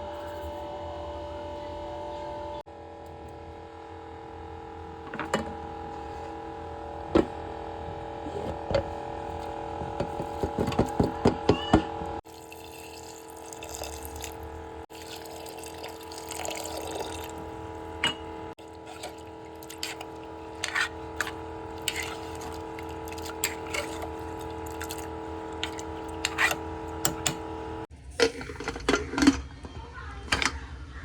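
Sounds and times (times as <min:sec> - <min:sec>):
steady hum: 0:00.0 - 0:27.9.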